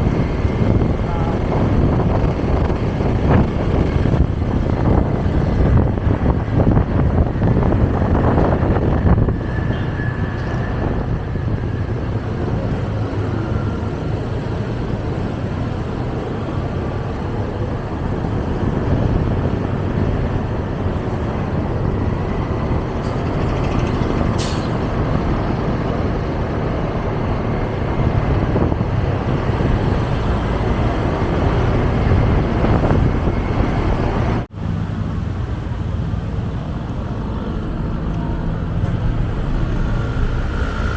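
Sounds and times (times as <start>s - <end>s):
motorcycle engine and road rumble: 0.0s - 40.9s
trucks and buses: 0.0s - 40.9s.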